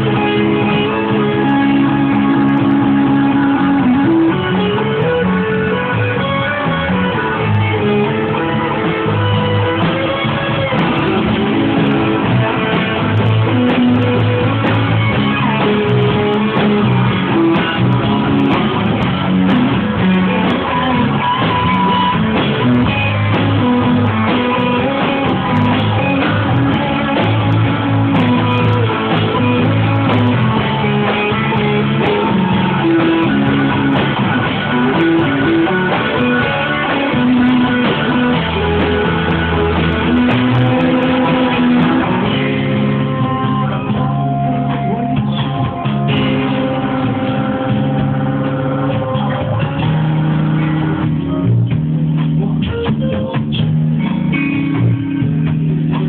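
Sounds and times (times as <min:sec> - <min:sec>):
bass line: 0:00.0 - 0:56.0
drums: 0:00.0 - 0:56.0
electric guitars: 0:00.0 - 0:56.0.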